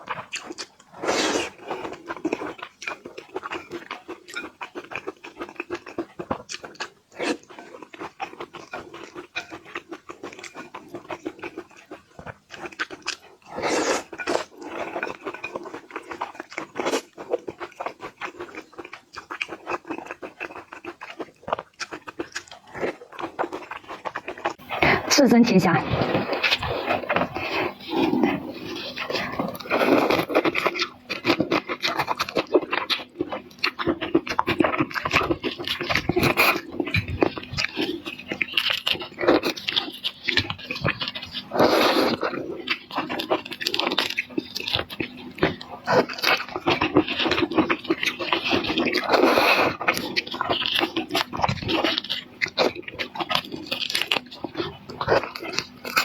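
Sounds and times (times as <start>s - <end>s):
person chewing shrimp with crunches: 0.0s - 56.0s.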